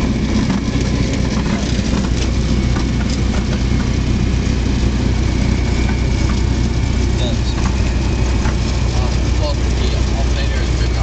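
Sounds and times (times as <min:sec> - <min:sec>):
aircraft piston engine drone: 0:00.0 - 0:11.0.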